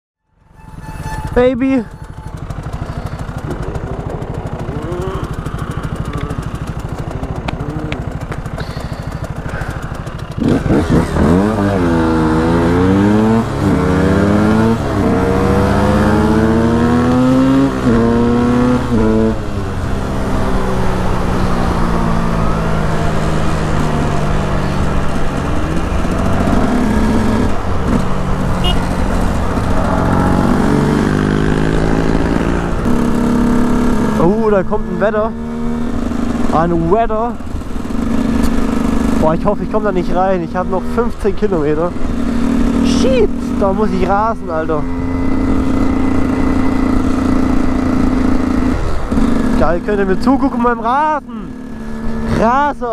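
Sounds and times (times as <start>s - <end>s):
motorcycle engine revving: 0.2s - 52.9s.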